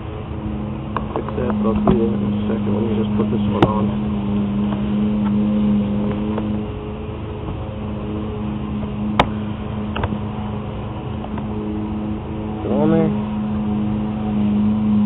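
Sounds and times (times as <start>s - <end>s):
mechanical motor hum: 0.0s - 15.0s.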